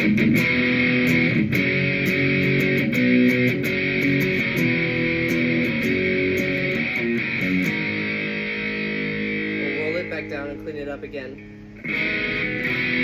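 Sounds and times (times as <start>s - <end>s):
electric guitar chords and notes: 0.0s - 13.0s.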